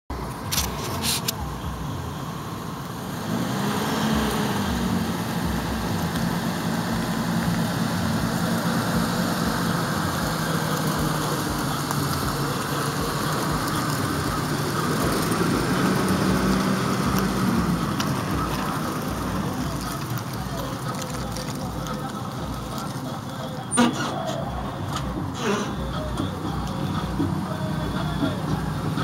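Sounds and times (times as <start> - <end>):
car engine idling: 0.1 - 29.0.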